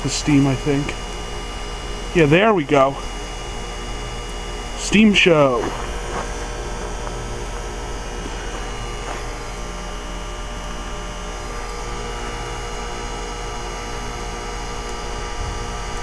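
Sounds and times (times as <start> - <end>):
heat pump humming: 0.0 - 16.0.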